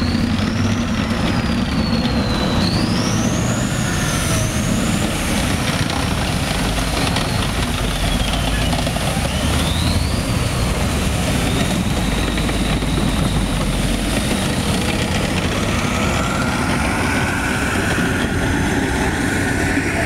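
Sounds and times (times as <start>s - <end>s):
thin whine rising in pitch: 0.0s - 20.0s
tracked vehicle engine rumble: 0.0s - 20.0s.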